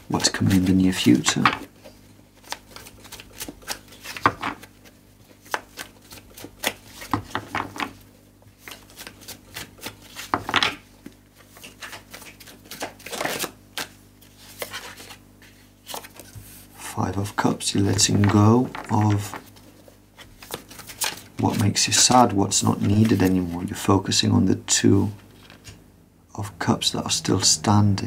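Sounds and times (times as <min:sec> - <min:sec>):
cards being shuffled: 0:00.0 - 0:16.7, 0:17.4 - 0:23.9, 0:25.2 - 0:25.8.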